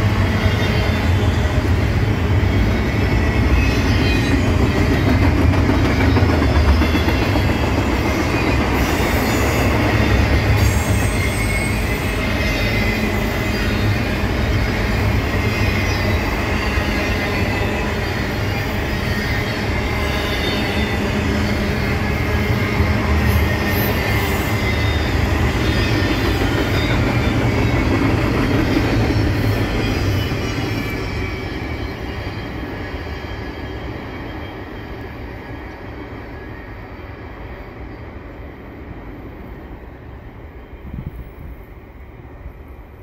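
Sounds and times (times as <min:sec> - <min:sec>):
freight train rumbling and rattling: 0:00.0 - 0:43.0.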